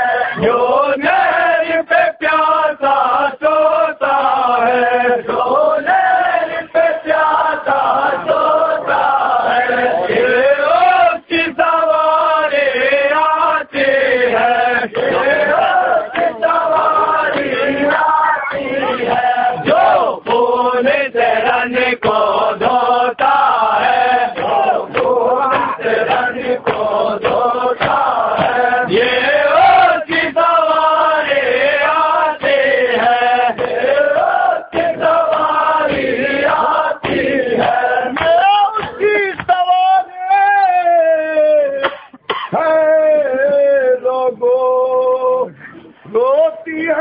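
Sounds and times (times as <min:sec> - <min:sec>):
crowd of men chanting in unison: 0:00.0 - 0:39.6.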